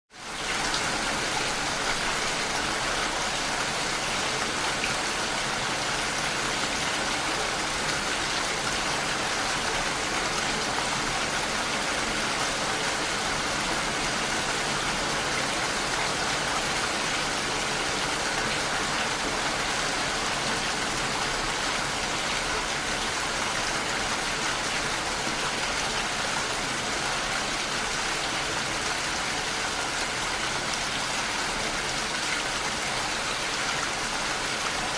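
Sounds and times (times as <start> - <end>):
rain against a window: 0.2 - 34.9.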